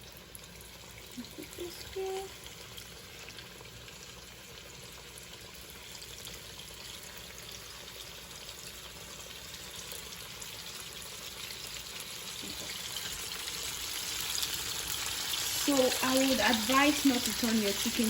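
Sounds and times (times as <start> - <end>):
chicken frying in hot oil: 0.0 - 18.0.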